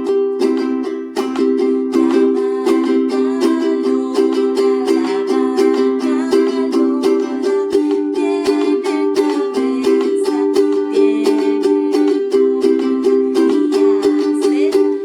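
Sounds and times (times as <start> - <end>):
strummed string instrument chords: 0.0 - 15.0.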